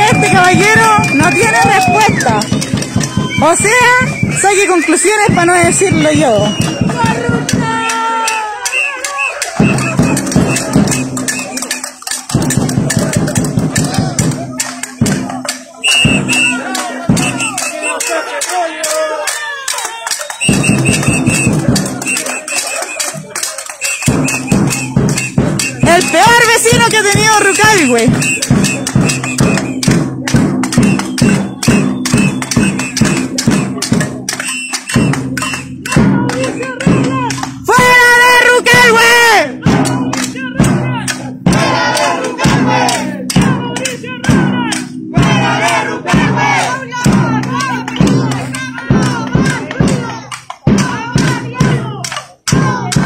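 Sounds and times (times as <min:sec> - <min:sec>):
ringing percussion strikes: 0:00.0 - 0:18.4, 0:20.2 - 0:37.7, 0:39.5 - 0:53.0
crowd chanting and shouting: 0:00.0 - 0:53.0
music with steady beat: 0:00.0 - 0:53.0.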